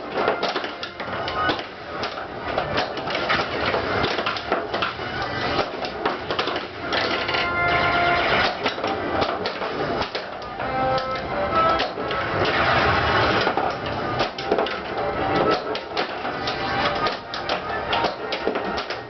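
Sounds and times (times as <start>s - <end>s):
pinball game music: 0.0s - 19.0s
pinball mechanical clacking: 0.0s - 19.0s.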